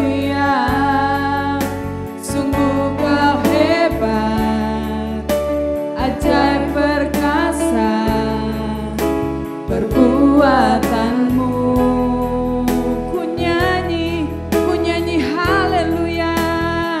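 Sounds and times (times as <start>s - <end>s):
person singing worship song: 0.0s - 17.0s
sustained bass notes: 0.0s - 17.0s.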